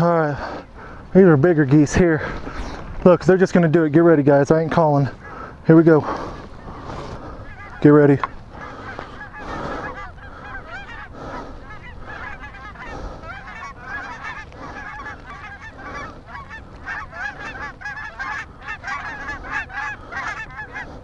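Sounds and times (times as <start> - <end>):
geese honking: 0.0 - 21.0
wind buffeting microphone: 0.0 - 21.0.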